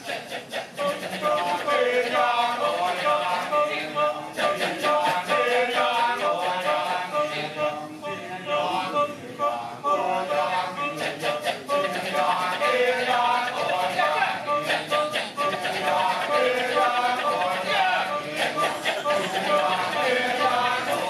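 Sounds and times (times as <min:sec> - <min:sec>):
men chanting in interlocking rhythm: 0:00.0 - 0:21.0.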